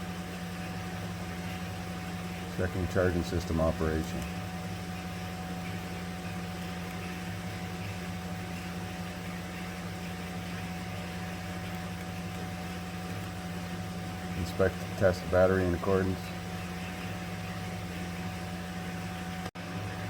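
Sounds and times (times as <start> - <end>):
faint steady whine: 0.0 - 20.0
low mechanical hum: 0.0 - 20.0.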